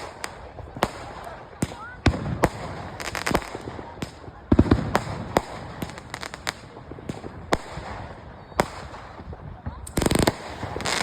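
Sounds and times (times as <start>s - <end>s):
fireworks bangs and crackles: 0.0s - 11.0s
heavy firework booms: 0.0s - 11.0s.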